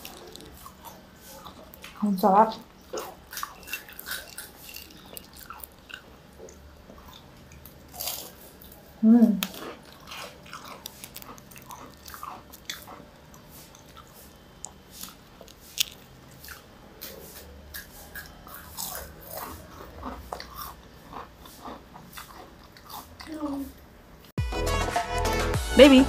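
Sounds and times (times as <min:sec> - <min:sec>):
crunching and chewing fritters: 0:00.0 - 0:23.9.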